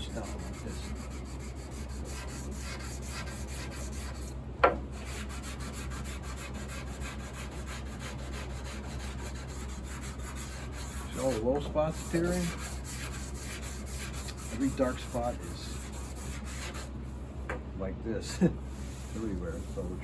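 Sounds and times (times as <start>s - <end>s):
sandpaper rasping on wood: 0.0s - 4.3s, 5.0s - 16.9s, 18.7s - 20.0s.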